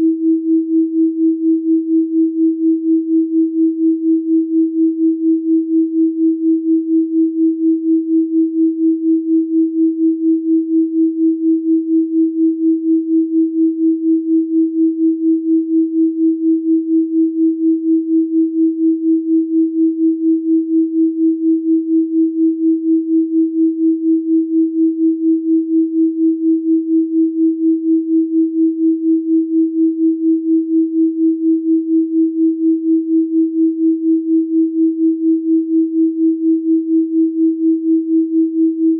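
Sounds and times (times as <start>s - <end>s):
pulsing sine tone: 0.0s - 38.9s.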